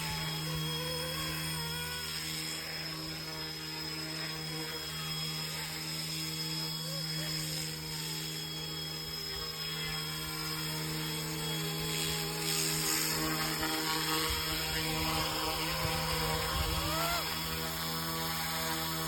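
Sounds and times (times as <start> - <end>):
rc helicopter motors whining: 0.0 - 19.0.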